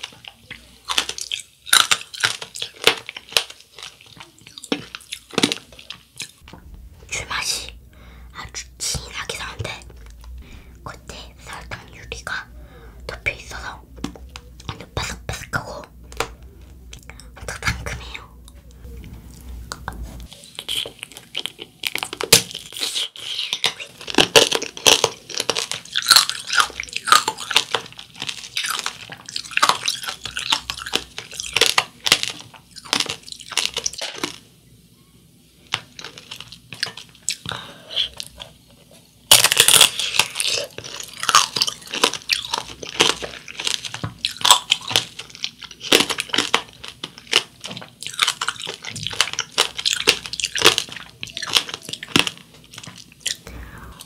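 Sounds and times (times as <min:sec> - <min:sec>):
crunching hard candy: 0:00.0 - 0:18.3, 0:20.3 - 0:34.5, 0:35.6 - 0:54.0.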